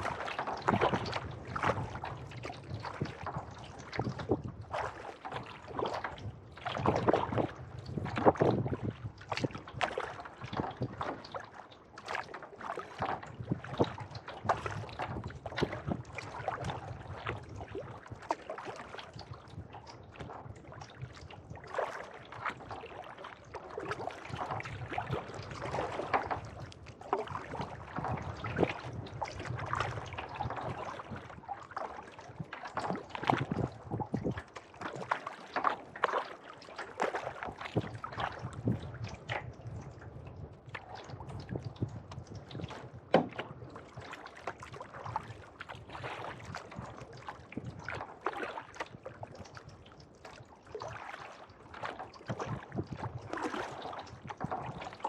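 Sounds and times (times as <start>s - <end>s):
kayak paddle strokes in water: 0.0s - 55.0s.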